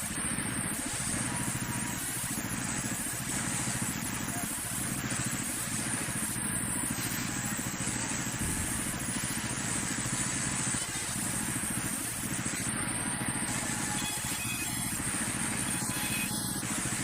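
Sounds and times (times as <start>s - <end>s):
sawmill machinery droning: 0.0s - 17.0s.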